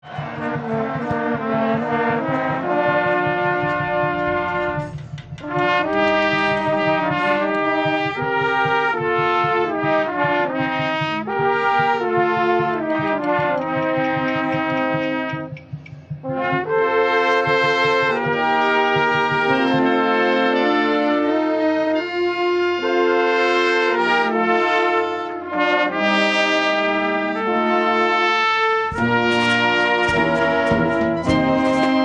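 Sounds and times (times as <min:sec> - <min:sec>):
orchestra with brass chords: 0:00.0 - 0:32.0.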